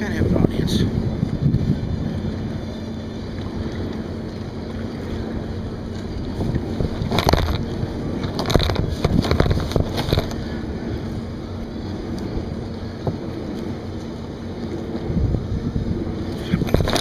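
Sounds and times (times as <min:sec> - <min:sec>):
wind on microphone: 0:00.0 - 0:17.0
paddle strokes splashing water: 0:01.0 - 0:17.0.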